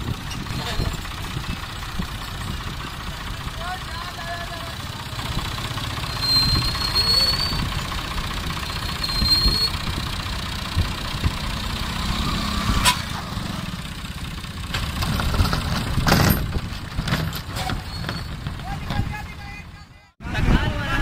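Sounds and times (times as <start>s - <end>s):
tractor diesel engines rumbling: 0.0s - 21.0s.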